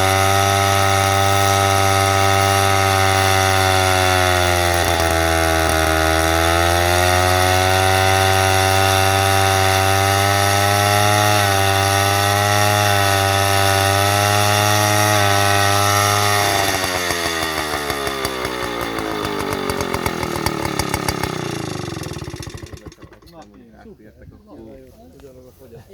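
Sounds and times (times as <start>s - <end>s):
chainsaw engine running: 0.0s - 23.8s.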